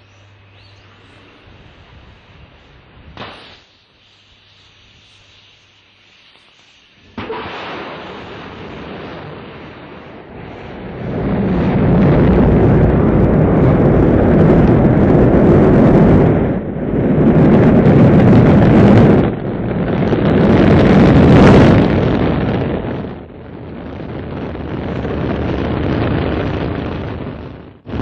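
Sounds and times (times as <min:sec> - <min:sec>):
rocket engines rumbling: 0:00.0 - 0:28.0.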